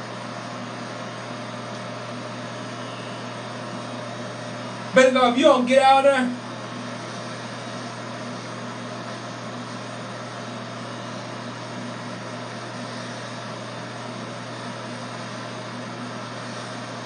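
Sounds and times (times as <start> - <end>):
hair clippers buzzing: 0.0 - 17.0.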